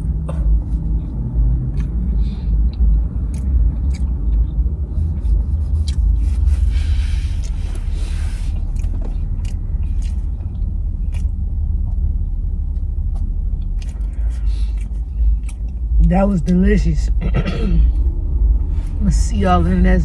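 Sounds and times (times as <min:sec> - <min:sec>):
chewing and mouth clicks: 0:00.0 - 0:17.2
low rumble: 0:00.0 - 0:20.0.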